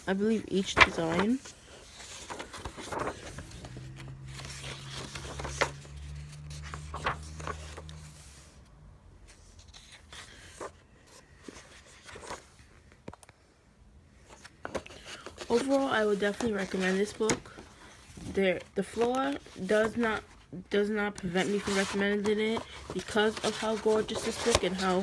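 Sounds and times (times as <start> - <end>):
paper pages rustling: 0.0 - 8.6, 9.3 - 13.3, 14.2 - 20.4, 21.0 - 25.0
low steady hum: 0.0 - 25.0.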